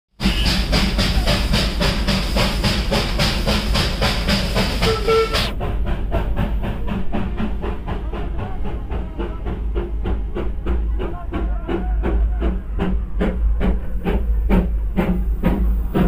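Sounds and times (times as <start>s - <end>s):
steam locomotive chuffing: 0.1s - 16.0s
steam hiss: 0.2s - 16.0s.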